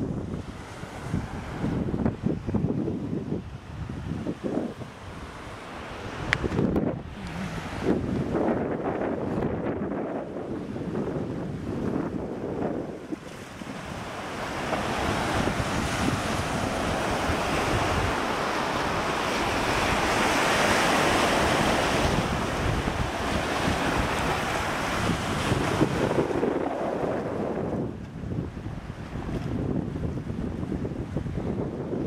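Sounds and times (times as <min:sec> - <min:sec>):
surf breaking on beach: 0:00.0 - 0:32.0
wind buffeting microphone: 0:00.0 - 0:32.0.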